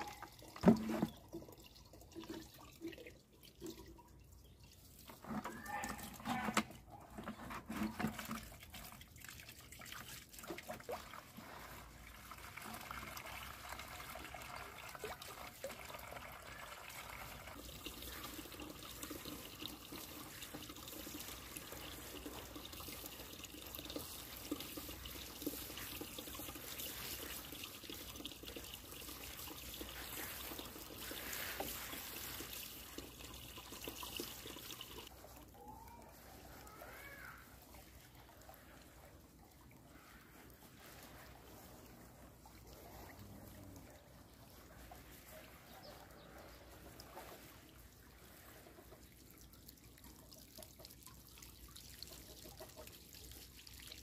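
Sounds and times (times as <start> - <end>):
water trickling into plastic container: 0.0 - 54.0.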